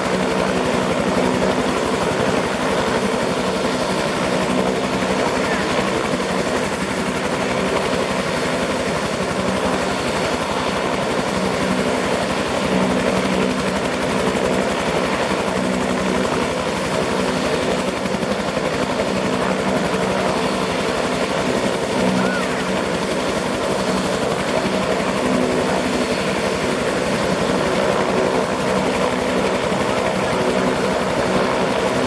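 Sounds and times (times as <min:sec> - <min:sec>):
helicopter engine tone: 0:00.0 - 0:32.0
helicopter rotor beat: 0:00.0 - 0:32.0.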